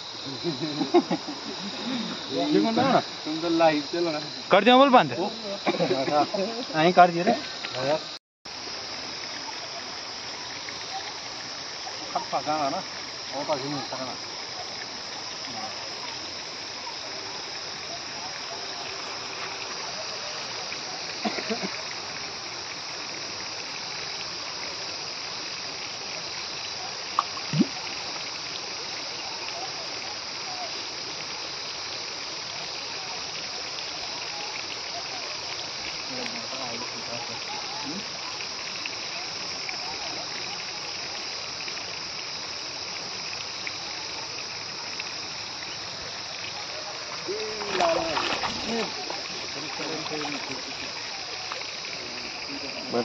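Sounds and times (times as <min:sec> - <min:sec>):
flowing water hiss: 0:00.0 - 0:53.0
insect chorus chirring: 0:00.0 - 0:53.0.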